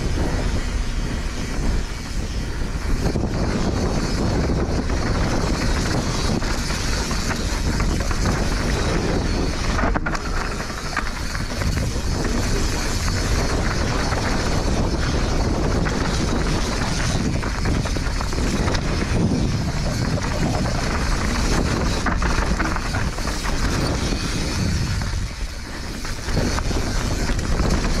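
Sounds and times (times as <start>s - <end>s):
mountain bike rattling on dirt trail: 0.0s - 28.0s
wind on microphone: 0.0s - 28.0s.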